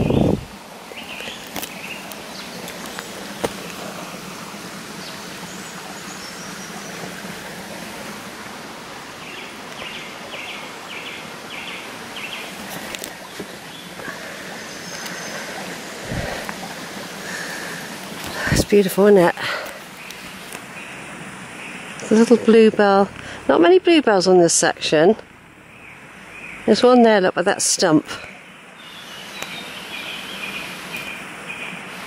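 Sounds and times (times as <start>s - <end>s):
birds singing: 0.0s - 7.8s, 9.1s - 23.0s, 25.6s - 32.0s
brook babbling: 0.0s - 32.0s.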